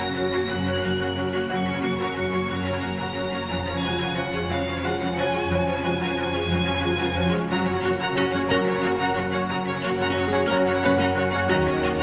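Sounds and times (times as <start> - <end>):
low cello-like line: 0.0 - 12.0
violin-like held string notes: 0.0 - 12.0.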